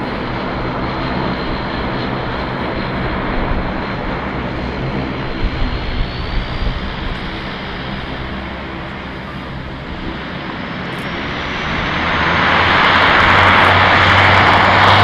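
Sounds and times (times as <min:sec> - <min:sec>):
turboprop engines running: 0:00.0 - 0:15.0.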